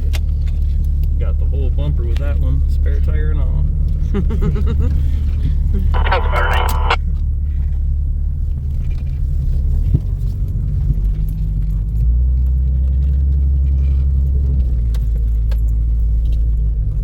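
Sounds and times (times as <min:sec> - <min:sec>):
engine and drivetrain rumble: 0:00.0 - 0:06.0, 0:07.0 - 0:17.0.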